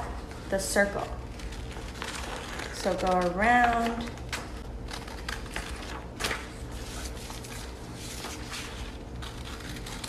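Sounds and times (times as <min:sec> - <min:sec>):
paper rustling: 0:00.2 - 0:10.0
scissors snipping paper: 0:01.3 - 0:10.0.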